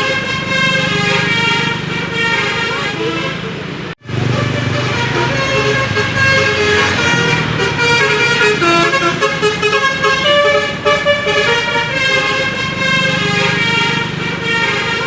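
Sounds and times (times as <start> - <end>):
bus horn playing a tune: 0.0 - 15.0
low hum of engines: 0.0 - 15.0.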